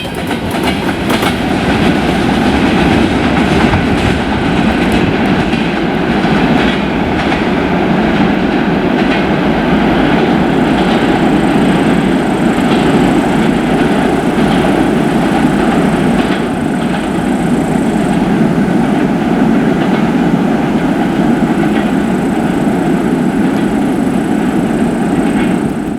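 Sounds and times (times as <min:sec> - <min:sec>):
freight train rumbling past: 0:00.0 - 0:25.9.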